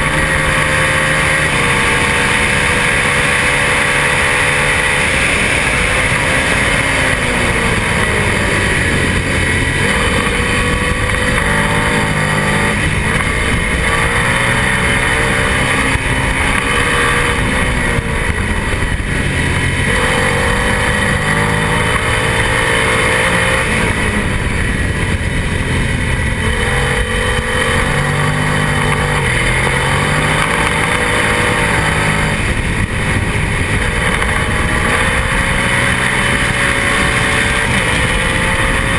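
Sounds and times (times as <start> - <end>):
heavy wind rush: 0.0 - 38.9
racing motorcycle engine: 0.0 - 38.9.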